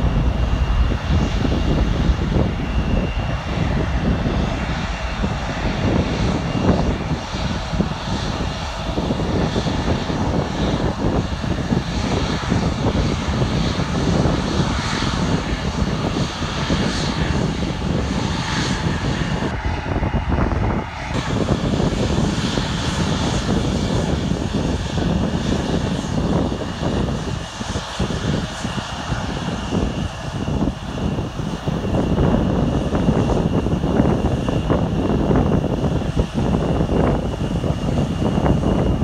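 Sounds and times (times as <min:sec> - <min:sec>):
airliner takeoff rumble: 0:00.0 - 0:39.0
jet engine at taxi power: 0:00.0 - 0:39.0.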